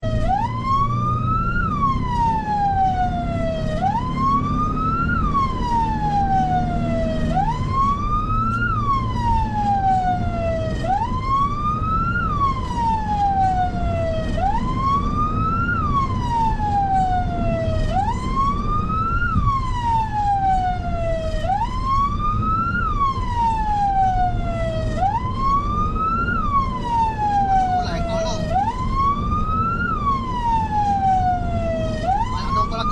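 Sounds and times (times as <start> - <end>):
emergency vehicle siren wailing: 0.0 - 32.9.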